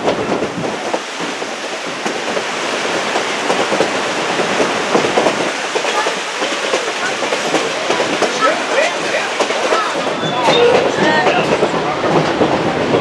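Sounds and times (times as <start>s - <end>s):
railroad cars rolling: 0.0s - 13.0s
wheels clicking over rails: 0.0s - 13.0s.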